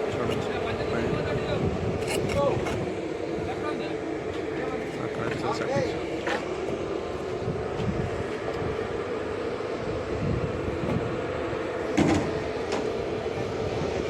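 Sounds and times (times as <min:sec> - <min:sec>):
construction site rumble: 0:00.0 - 0:14.0.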